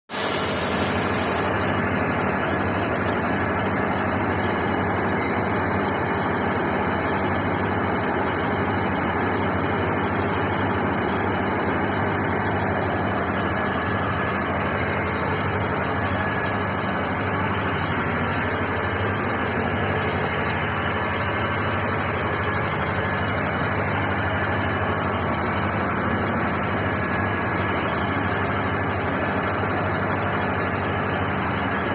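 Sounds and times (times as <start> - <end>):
ice cream machine motor hum: 0.2 - 31.9.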